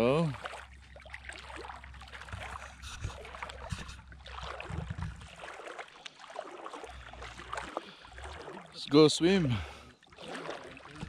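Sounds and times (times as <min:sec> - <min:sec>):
water lapping and trickling: 0:00.0 - 0:11.0.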